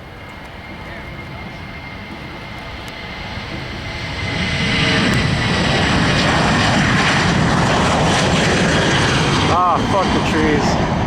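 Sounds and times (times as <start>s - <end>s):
jet engines whining: 0.0s - 11.0s.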